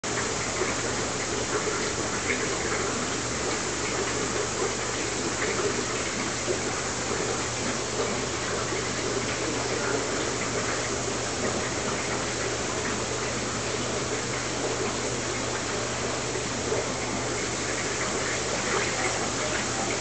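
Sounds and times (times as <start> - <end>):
splashing water rush: 0.0 - 20.0.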